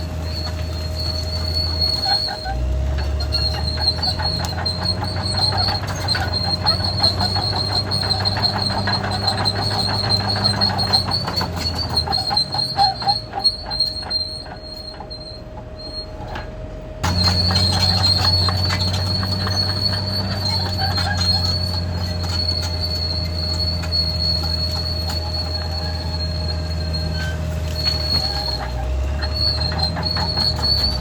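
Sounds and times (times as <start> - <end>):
diesel engine running: 0.0 - 31.0
high-pitched track squeal: 0.0 - 31.0
steel track links clattering: 0.0 - 31.0.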